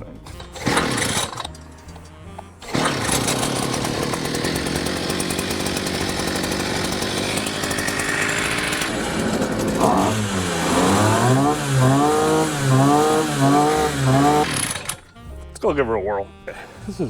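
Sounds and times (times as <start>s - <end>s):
small outboard motor starting: 0.3s - 15.2s.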